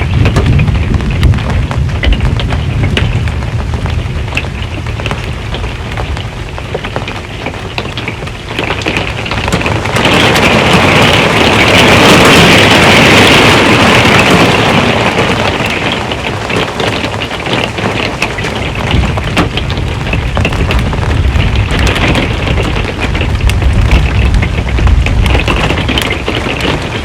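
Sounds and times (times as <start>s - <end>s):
rain on a metal roof: 0.0s - 27.0s.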